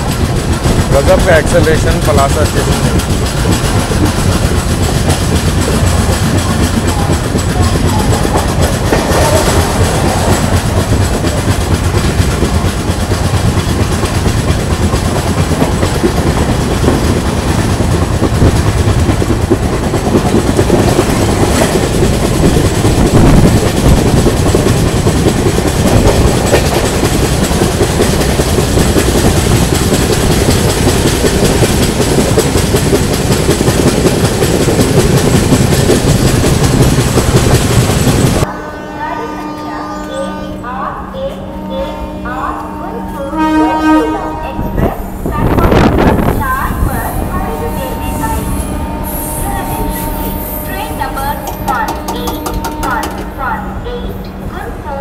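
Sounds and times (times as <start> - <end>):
train wheels clattering on track: 0.0 - 38.5, 44.7 - 54.6.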